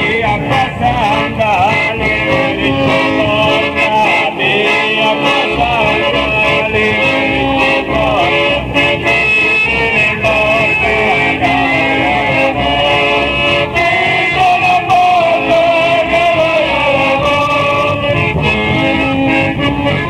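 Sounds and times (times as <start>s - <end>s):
person singing folk song: 0.0s - 20.0s
plucked guitar: 0.0s - 20.0s.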